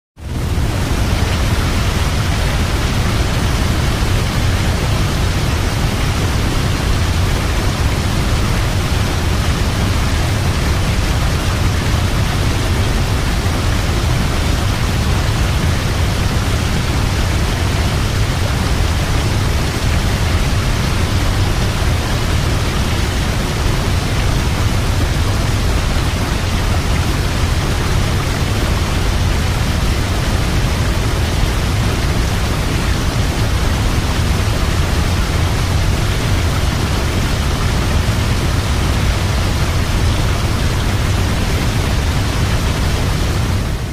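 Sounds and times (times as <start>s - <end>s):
waterfall roaring: 0.2s - 43.9s.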